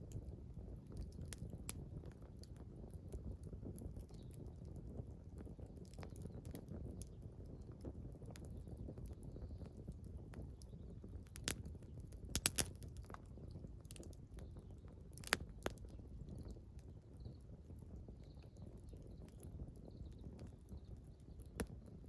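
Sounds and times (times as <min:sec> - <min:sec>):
campfire crackling: 0:00.0 - 0:22.0
sharp fire pops: 0:00.0 - 0:22.0.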